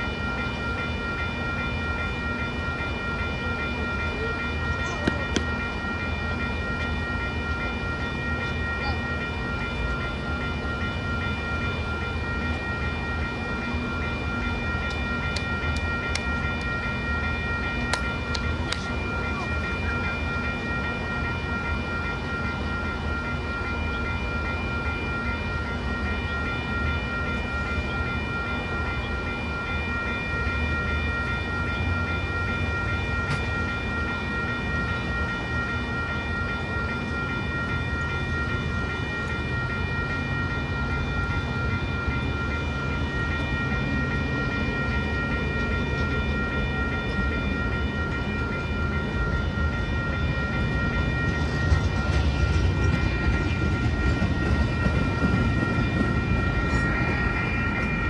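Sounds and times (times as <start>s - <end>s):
train low rumble: 0.0s - 58.0s.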